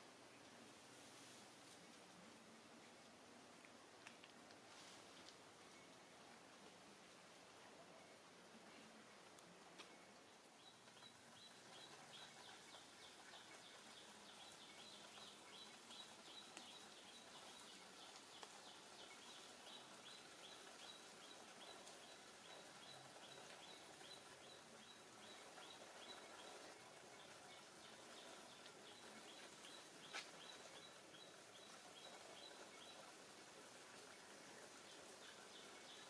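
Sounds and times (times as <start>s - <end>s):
faint outdoor ambience: 0.0s - 36.0s.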